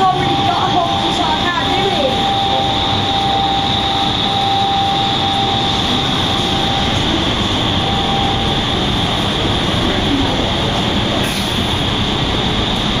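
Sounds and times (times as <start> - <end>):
thin steady tone: 0.0 - 10.9
loud rush of air: 2.2 - 13.0.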